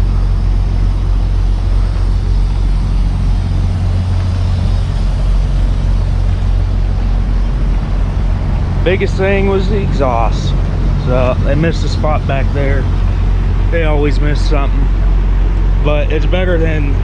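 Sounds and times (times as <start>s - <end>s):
truck engine rumbling: 0.0s - 16.9s.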